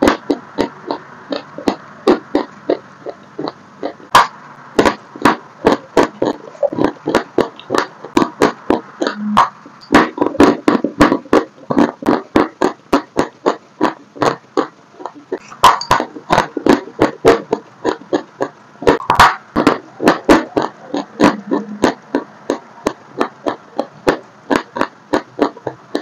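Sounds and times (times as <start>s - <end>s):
chalk being chewed crunching: 0.0s - 26.0s.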